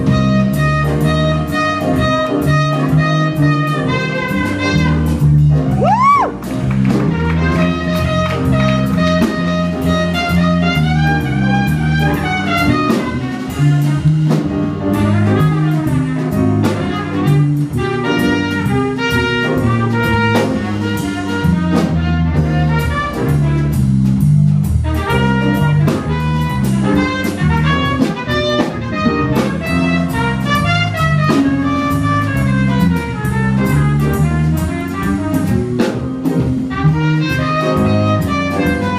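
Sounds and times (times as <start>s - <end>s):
live jazz band playing: 0.0s - 38.9s.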